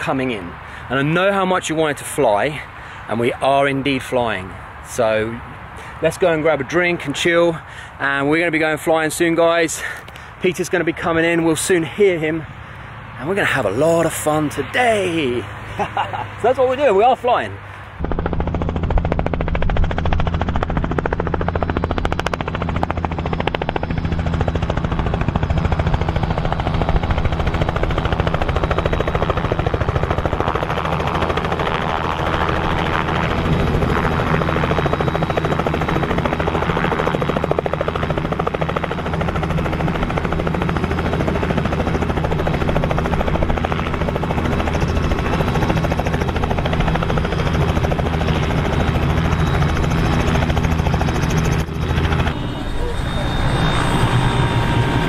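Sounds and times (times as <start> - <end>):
helicopter engine running: 0.0 - 55.0
helicopter rotor beating: 0.0 - 55.0.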